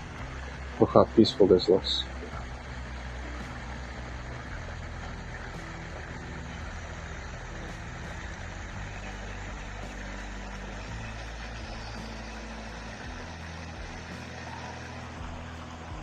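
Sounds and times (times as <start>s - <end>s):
even hiss: 0.0s - 16.0s
low rumble: 0.0s - 16.0s.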